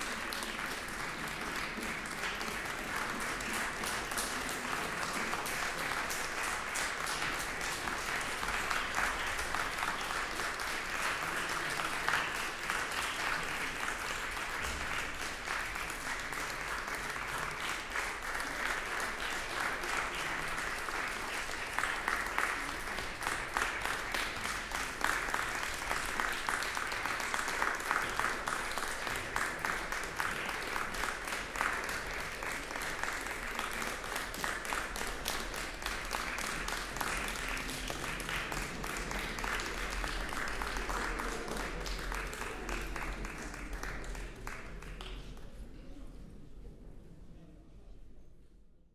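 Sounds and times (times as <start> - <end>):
audience applauding: 0.0 - 45.6.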